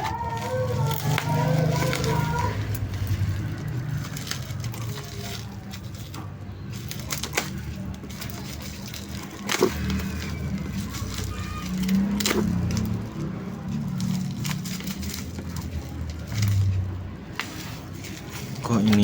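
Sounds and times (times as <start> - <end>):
packaging crackling: 0.0 - 19.0.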